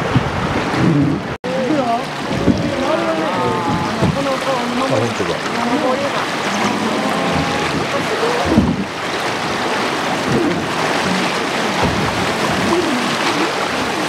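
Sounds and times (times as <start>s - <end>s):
river rapids rushing and splashing: 0.0s - 14.0s.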